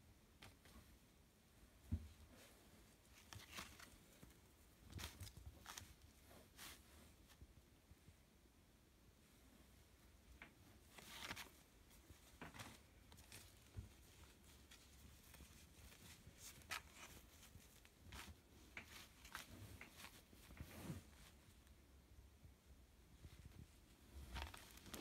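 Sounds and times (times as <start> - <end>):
fabric rustling: 1.7 - 7.6, 9.3 - 21.7, 23.2 - 25.0.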